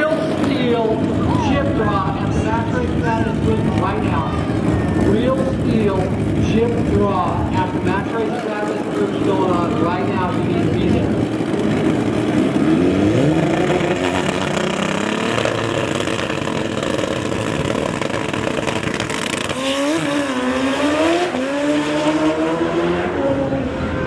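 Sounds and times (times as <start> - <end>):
racing engines revving: 0.0 - 24.0.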